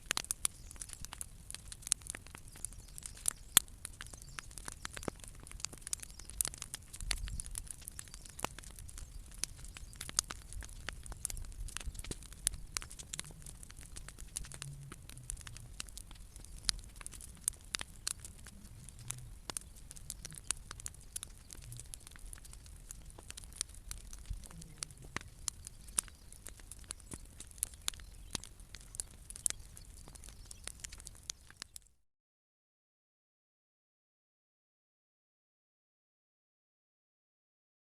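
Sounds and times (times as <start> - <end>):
low fire rumble: 0.0 - 31.8
bonfire crackling and popping: 0.0 - 31.9.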